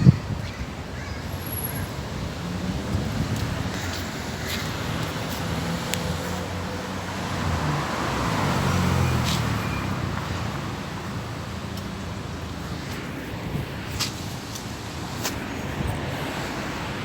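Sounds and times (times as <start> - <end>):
traffic engine hum: 0.0 - 17.0.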